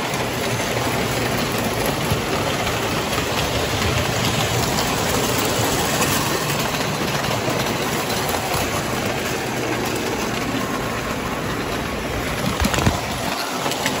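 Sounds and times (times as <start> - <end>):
toy train rolling on track: 0.0 - 14.0.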